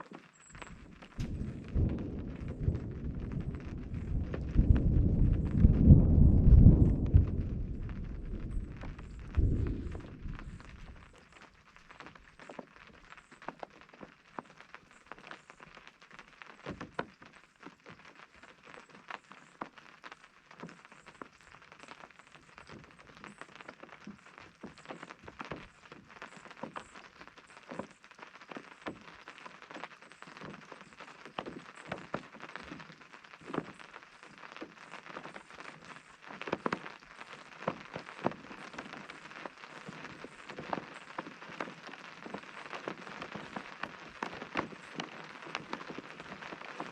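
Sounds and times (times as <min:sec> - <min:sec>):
rain on tent fabric: 0:00.0 - 0:46.9.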